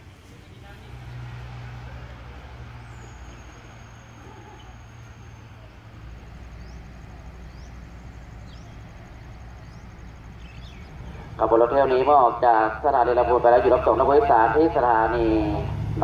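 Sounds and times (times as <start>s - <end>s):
distant diesel engine hum: 0.0s - 16.0s.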